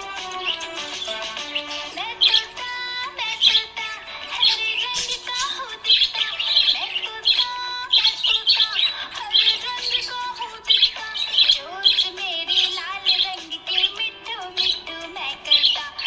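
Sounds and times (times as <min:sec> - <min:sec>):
background music with held notes: 0:00.0 - 0:16.0
budgerigar chirping: 0:00.0 - 0:16.0.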